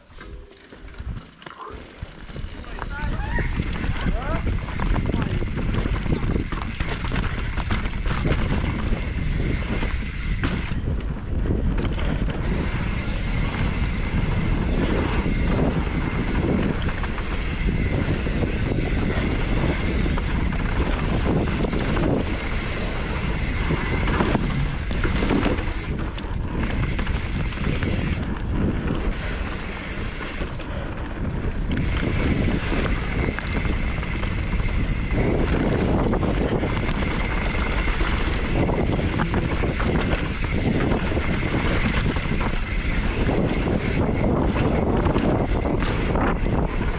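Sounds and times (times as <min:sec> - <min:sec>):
mountain bike rattling over bumps: 0:00.0 - 0:46.9
wind buffeting microphone: 0:01.9 - 0:46.9.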